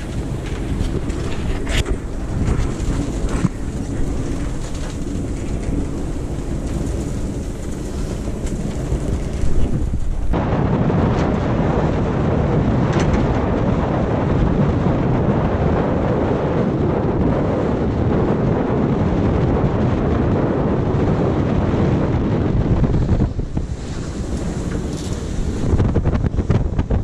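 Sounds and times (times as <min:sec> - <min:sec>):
sea water rushing along hull: 0:00.0 - 0:27.0
wind buffeting microphone: 0:00.0 - 0:27.0.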